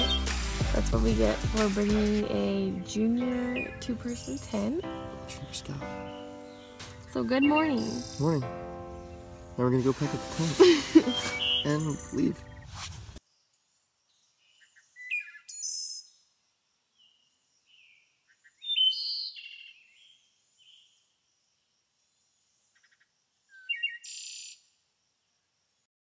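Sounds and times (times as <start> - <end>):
songbird chirping and trilling: 0.0 - 25.5.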